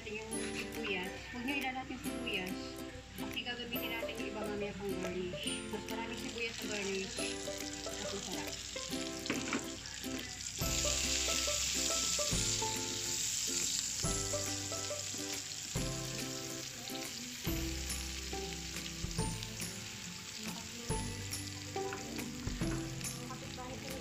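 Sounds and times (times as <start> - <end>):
onion sizzling in oil: 3.0 - 24.0.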